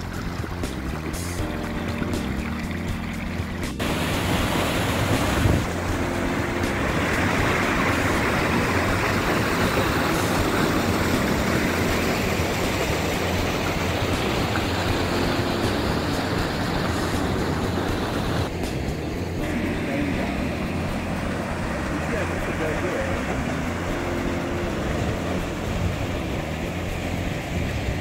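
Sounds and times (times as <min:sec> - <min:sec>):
wind rumble on microphone: 0:00.0 - 0:19.6, 0:21.3 - 0:28.0
stream rushing over rock: 0:00.0 - 0:28.0.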